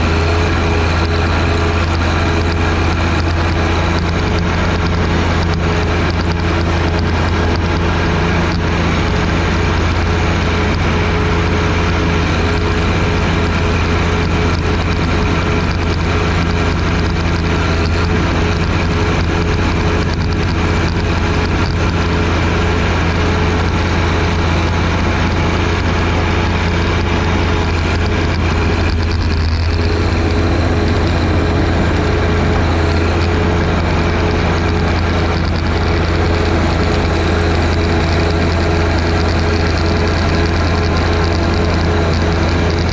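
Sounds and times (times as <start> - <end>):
tractor diesel engine humming: 0.0 - 42.9.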